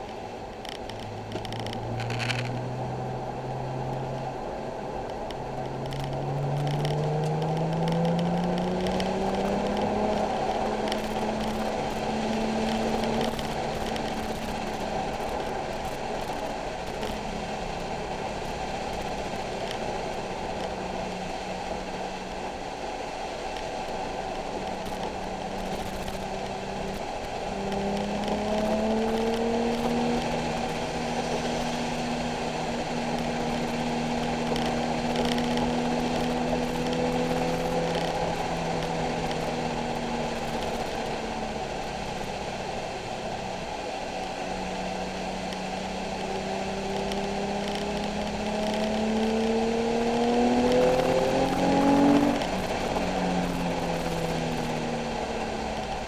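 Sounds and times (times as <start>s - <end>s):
car engine at speed: 0.0s - 56.0s.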